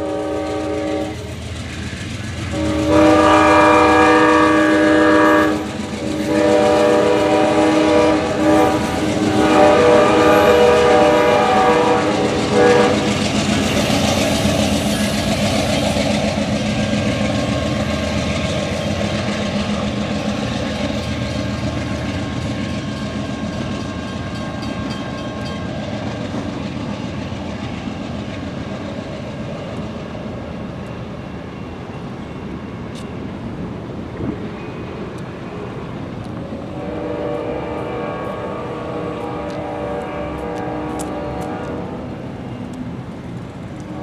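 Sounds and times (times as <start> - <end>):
train wheels clicking over rail joints: 0.0 - 36.7.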